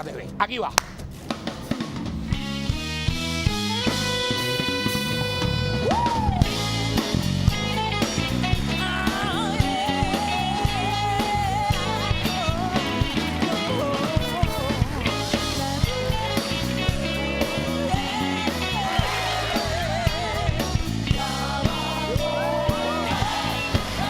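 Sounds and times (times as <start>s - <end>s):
rock band playing: 0.8s - 24.0s.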